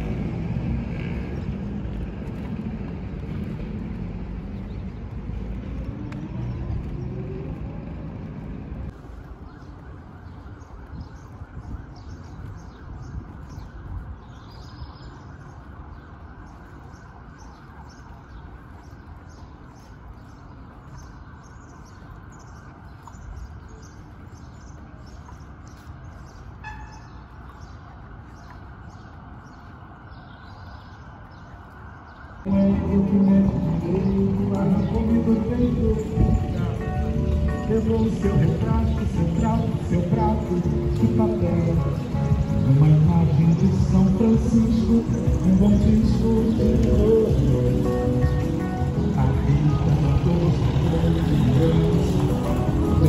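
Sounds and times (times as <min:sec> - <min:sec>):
road traffic rumbling: 0:00.0 - 0:53.0.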